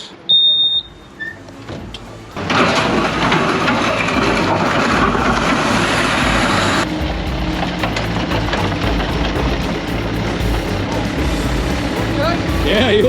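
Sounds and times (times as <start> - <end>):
vehicle engine rumbling: 0.0 - 13.0
loud noisy hiss: 1.9 - 13.0.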